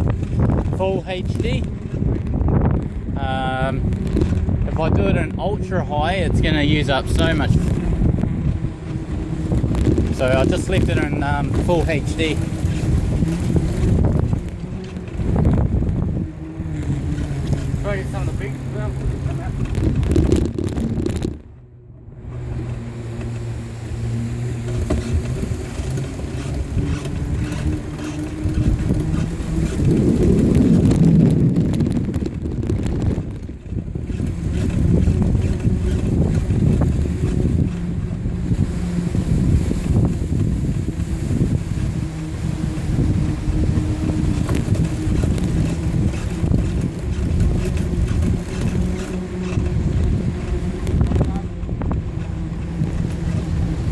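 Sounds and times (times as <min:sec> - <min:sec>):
wind and riding noise: 0:00.0 - 0:53.9.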